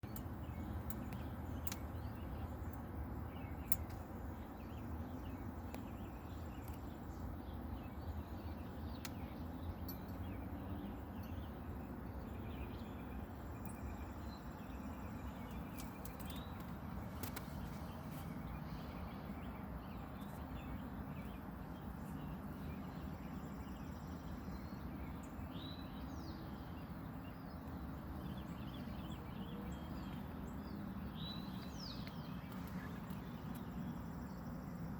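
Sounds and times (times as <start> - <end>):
faint birds chirping: 0.0 - 34.9
low background noise: 0.0 - 34.9.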